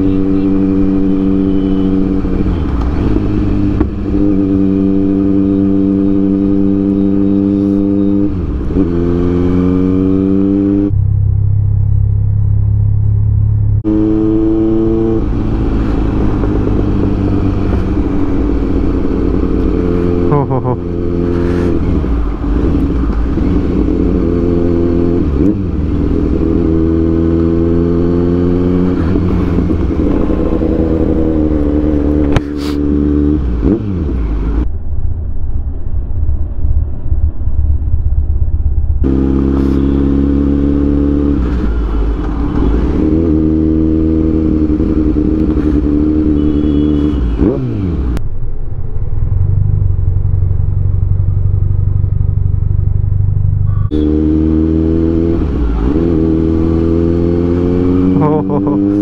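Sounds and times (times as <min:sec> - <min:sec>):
motorcycle engine revving: 0:00.0 - 0:34.7, 0:37.8 - 0:59.0.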